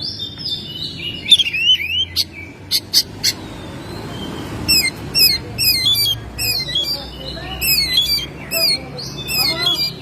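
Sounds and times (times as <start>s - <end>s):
bird singing whistled phrases: 0.0s - 10.0s.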